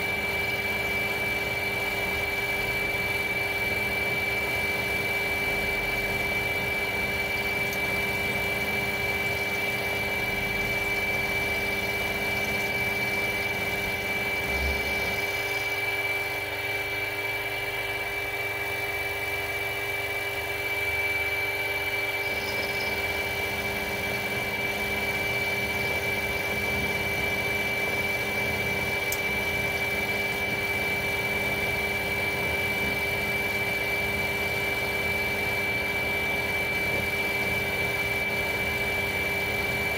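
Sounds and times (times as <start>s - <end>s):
milling machine whining: 0.0s - 39.9s.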